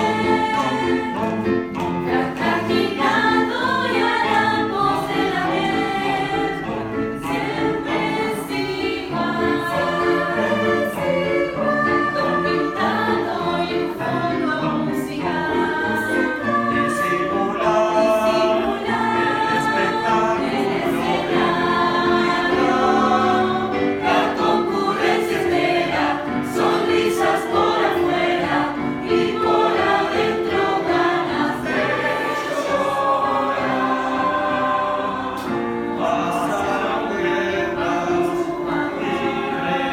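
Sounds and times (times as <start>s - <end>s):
choir singing in parts: 0.0s - 39.9s.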